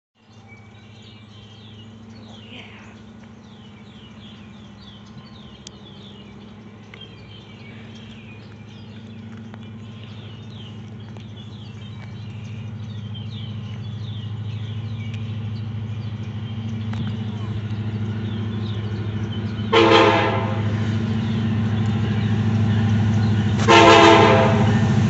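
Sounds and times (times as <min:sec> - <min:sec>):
small birds chirping: 0:00.2 - 0:23.7
diesel locomotive engines droning: 0:00.2 - 0:25.0.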